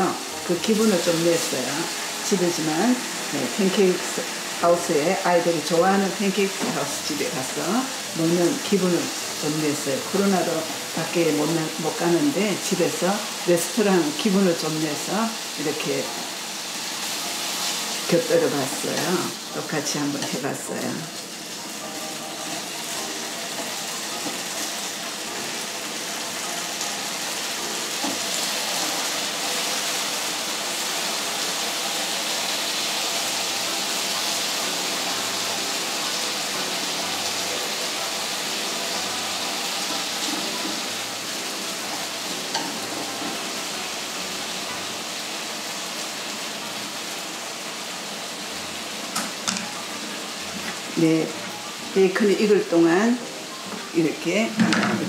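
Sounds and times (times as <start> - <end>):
bacon sizzling in a skillet: 0.0 - 55.0.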